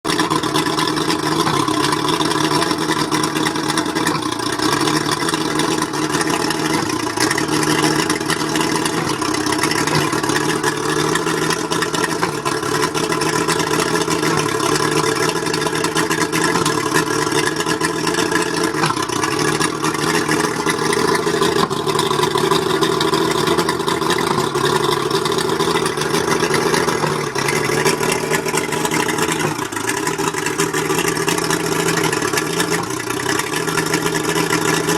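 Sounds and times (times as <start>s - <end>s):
outboard motor misfiring: 0.0s - 34.9s.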